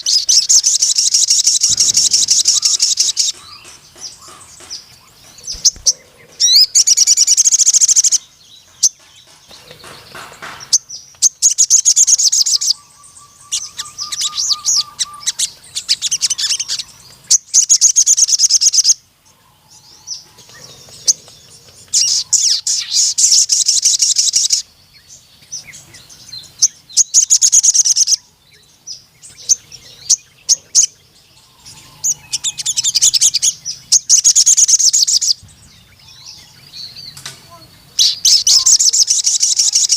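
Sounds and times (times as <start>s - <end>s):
sunbird trilling: 0.0s - 39.9s.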